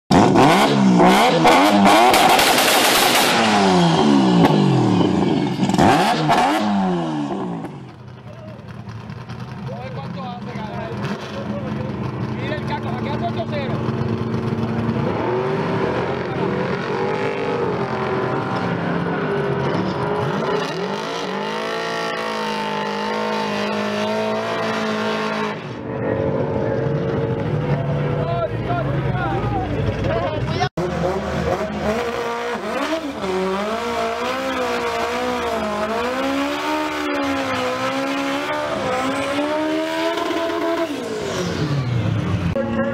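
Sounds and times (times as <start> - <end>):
car engine revving hard: 0.1 - 7.8, 10.9 - 27.8, 30.6 - 42.7.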